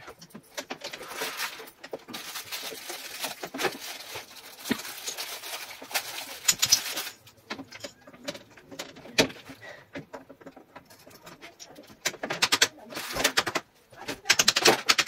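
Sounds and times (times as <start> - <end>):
panels rustling and scraping: 0.0 - 14.9.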